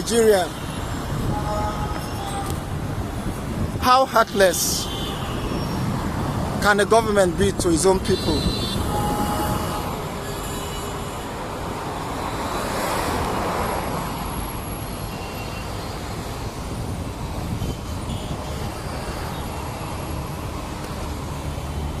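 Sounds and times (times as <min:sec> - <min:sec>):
rumble of passing vehicles: 0:00.0 - 0:22.0.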